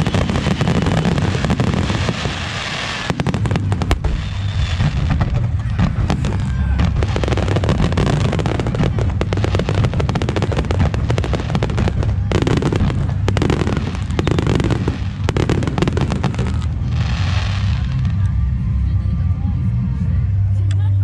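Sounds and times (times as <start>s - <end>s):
fireworks crackling: 0.0s - 18.6s
low rumble: 0.0s - 21.0s.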